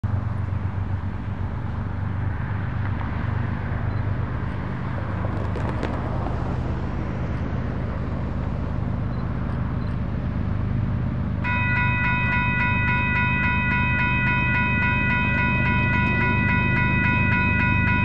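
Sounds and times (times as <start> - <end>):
low engine hum: 0.0 - 18.0
tyre and road noise: 0.0 - 18.0
cars driving past: 0.1 - 18.0.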